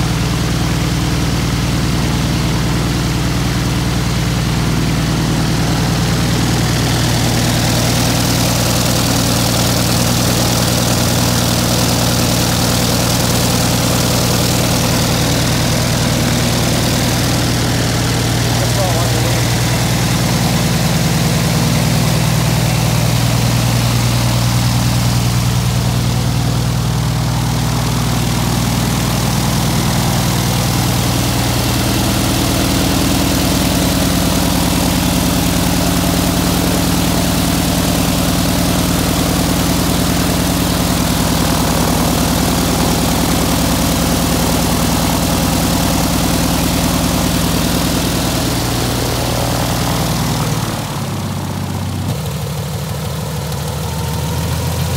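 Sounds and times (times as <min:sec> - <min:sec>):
aircraft engine idling: 0:00.0 - 0:54.9.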